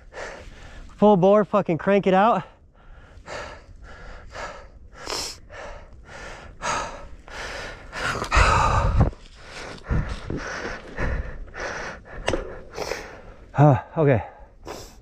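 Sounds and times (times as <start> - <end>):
person breathing hard: 0.0 - 1.0, 2.6 - 13.6, 14.3 - 15.0.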